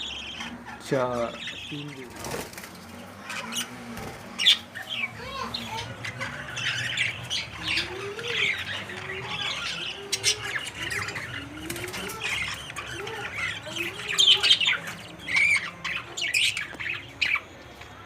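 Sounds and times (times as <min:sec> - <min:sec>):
budgerigars chattering and squawking: 0:00.0 - 0:18.0.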